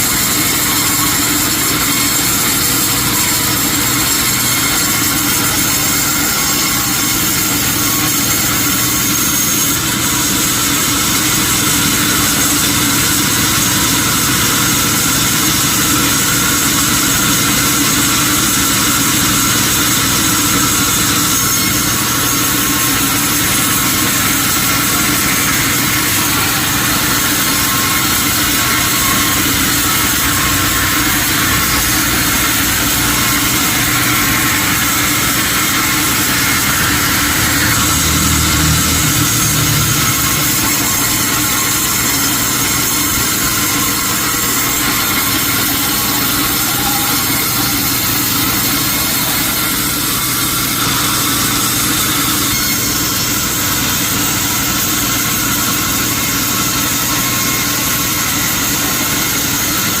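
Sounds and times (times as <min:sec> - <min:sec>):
sawmill machinery humming: 0:00.0 - 1:00.0.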